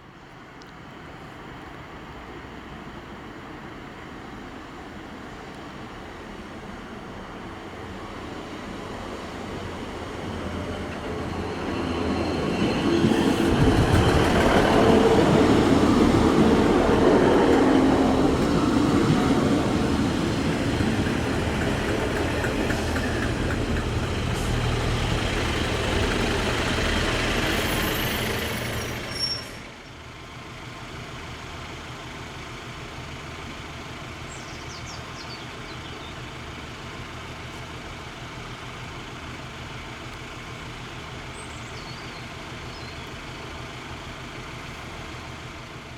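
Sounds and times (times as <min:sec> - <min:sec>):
diesel train engine drone: 0:00.0 - 0:45.9
wheel and rail noise: 0:00.2 - 0:45.9.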